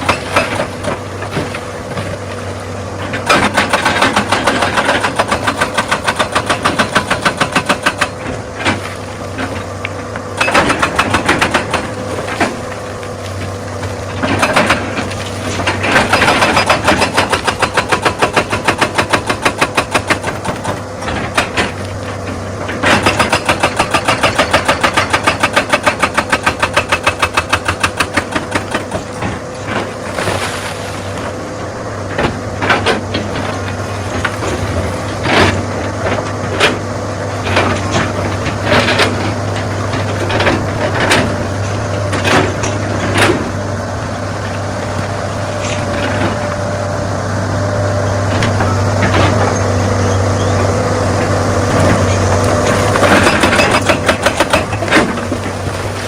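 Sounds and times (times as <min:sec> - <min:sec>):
diesel engine humming: 0:00.0 - 0:56.0
hydraulic rock breaker hammering stone: 0:00.0 - 0:56.0.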